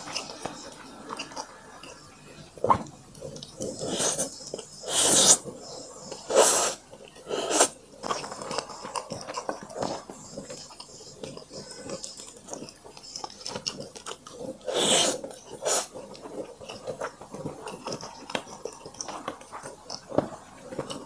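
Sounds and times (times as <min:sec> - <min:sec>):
soft wet chewing: 0:00.0 - 0:21.0.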